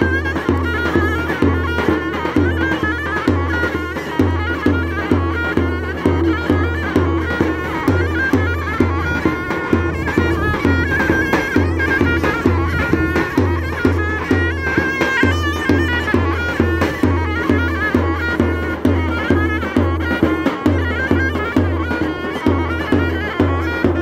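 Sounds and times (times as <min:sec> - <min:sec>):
deep davul drum strokes: 0:00.0 - 0:24.0
shrill zurna melody: 0:00.0 - 0:24.0.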